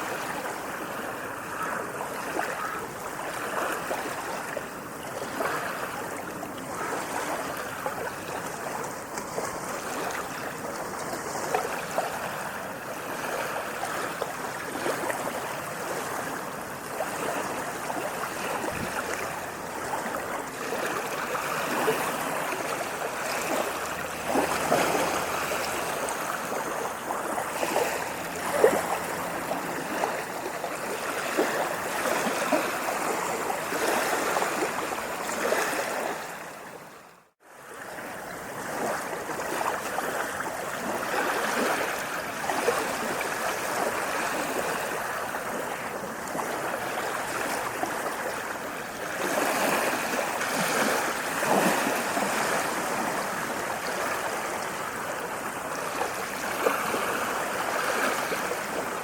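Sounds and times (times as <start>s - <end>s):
water splashing and gurgling: 0.0s - 59.0s.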